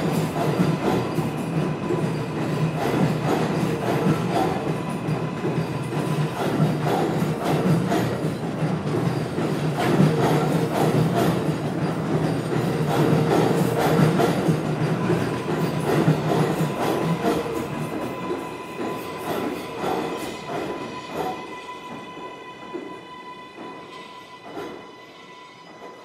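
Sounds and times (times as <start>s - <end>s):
train wheels clacking over rail joints: 0.0s - 22.9s
train running gear humming: 0.0s - 26.0s.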